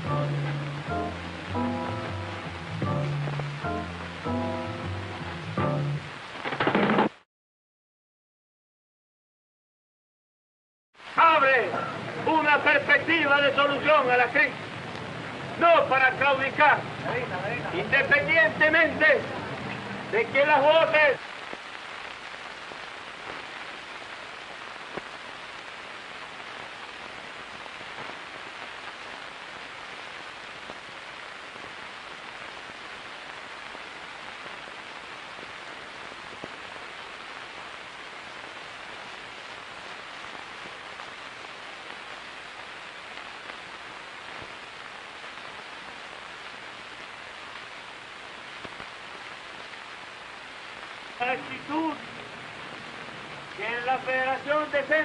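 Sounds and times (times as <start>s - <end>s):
film soundtrack hiss: 0.0s - 7.2s, 11.0s - 55.0s.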